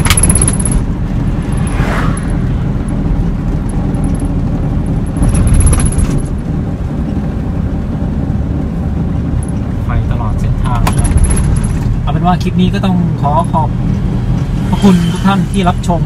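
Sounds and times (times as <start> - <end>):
car road noise rumble: 0.0 - 16.0.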